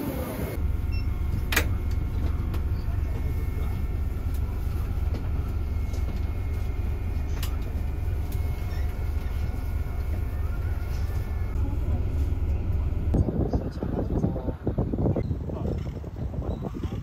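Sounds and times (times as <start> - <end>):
coach engine idling: 0.0 - 13.7.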